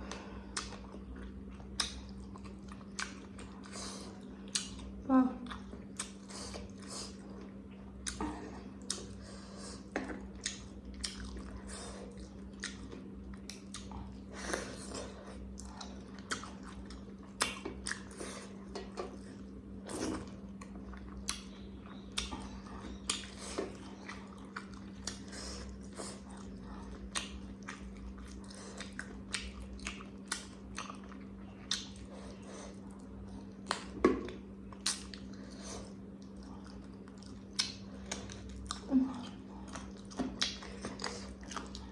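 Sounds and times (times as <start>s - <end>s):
mouth chewing food: 0.0s - 41.9s.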